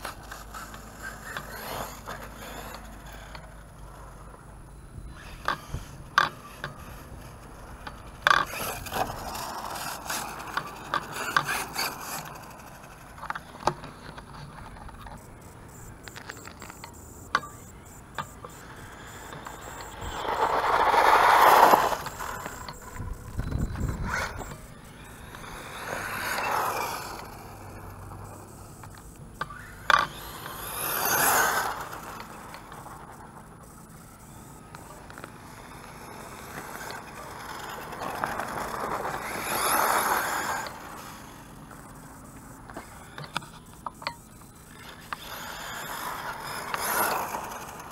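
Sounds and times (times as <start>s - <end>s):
faint motor whine: 0.0s - 47.9s
rc truck speeding by: 0.0s - 47.9s.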